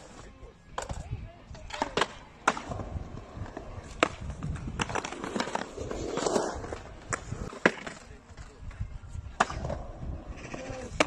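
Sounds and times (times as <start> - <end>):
skateboards clacking on concrete: 0.0 - 11.0.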